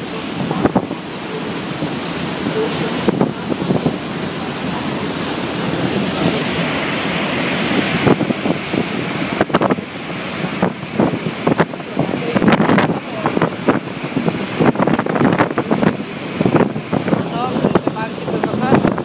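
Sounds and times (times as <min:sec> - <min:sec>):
wake water rushing and hissing: 0:00.0 - 0:19.0
wind buffeting microphone: 0:00.0 - 0:19.0.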